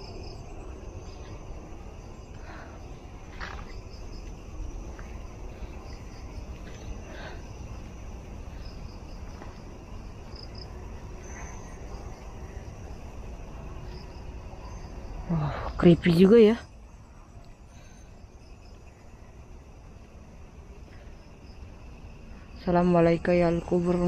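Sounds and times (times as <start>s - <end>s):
crickets chirping: 0.0s - 24.0s
high insect trill: 0.0s - 24.0s.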